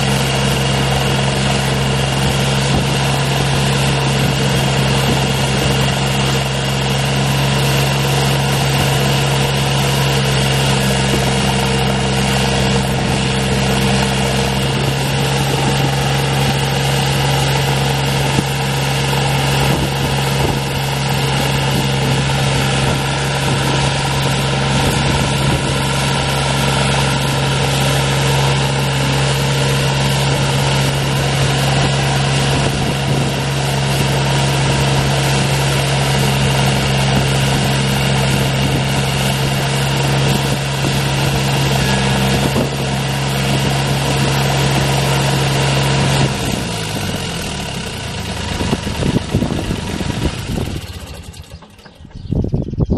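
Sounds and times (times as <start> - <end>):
trencher engine running: 0.0 - 52.9.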